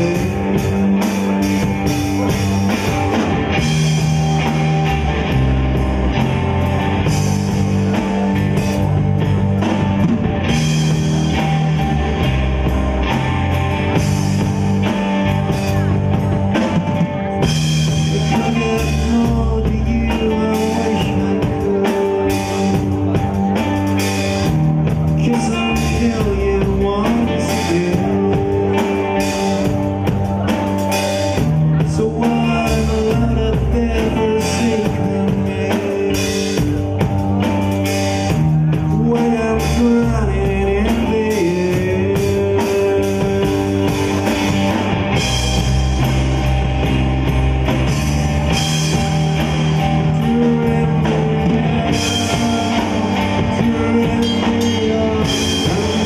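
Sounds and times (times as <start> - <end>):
bass guitar: 0.0 - 56.0
drum kit beat: 0.0 - 56.0
electric guitar: 0.0 - 56.0.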